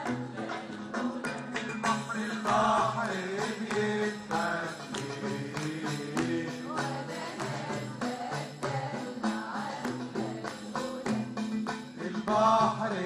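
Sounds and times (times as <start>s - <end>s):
hand percussion beat: 0.0s - 13.0s
male choir singing: 0.0s - 13.0s.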